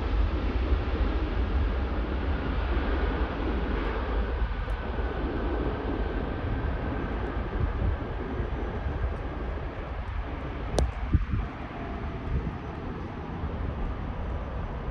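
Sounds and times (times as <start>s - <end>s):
jet engines rumbling: 0.0s - 14.9s.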